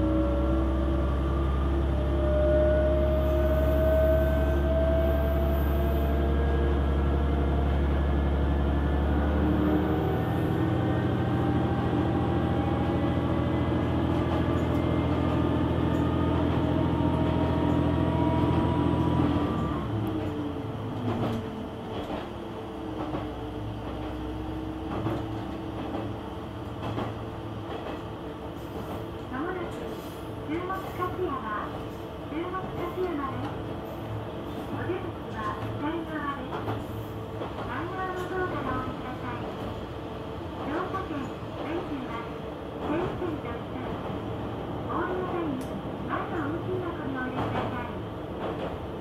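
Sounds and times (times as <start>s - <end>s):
diesel railcar engine drone: 0.0s - 49.0s.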